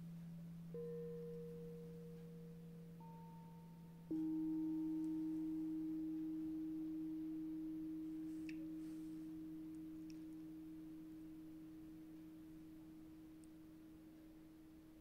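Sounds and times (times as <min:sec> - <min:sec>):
low humming tone: 0:00.0 - 0:15.0
singing bowl ringing: 0:00.0 - 0:15.0.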